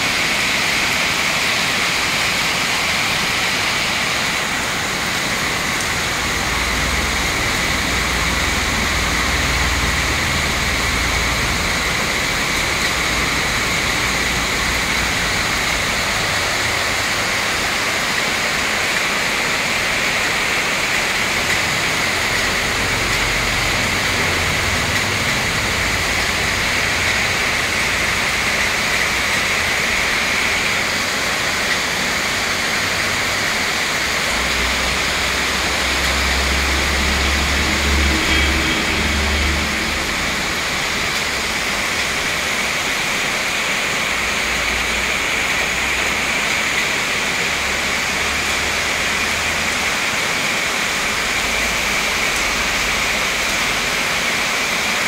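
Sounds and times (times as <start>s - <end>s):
heavy rain on paving and foliage: 0.0s - 55.0s.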